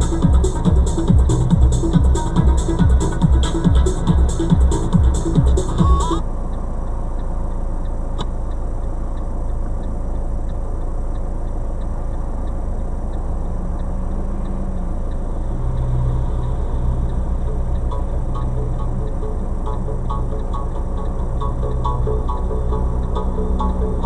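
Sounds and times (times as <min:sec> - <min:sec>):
car engine idling: 0:00.0 - 0:24.0
faint even ticking: 0:00.0 - 0:24.0
low hum: 0:00.0 - 0:24.0.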